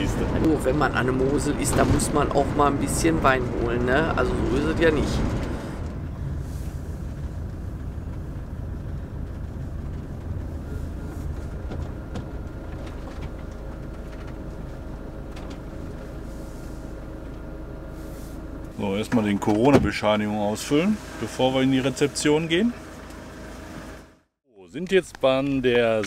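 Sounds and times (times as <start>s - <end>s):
diesel engine rumble: 0.0s - 26.0s
tyres on the road: 0.0s - 26.0s.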